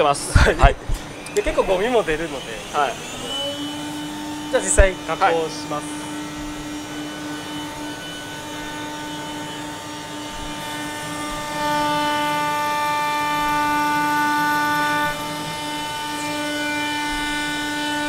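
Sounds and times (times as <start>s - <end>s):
wood router whining: 0.0s - 18.0s.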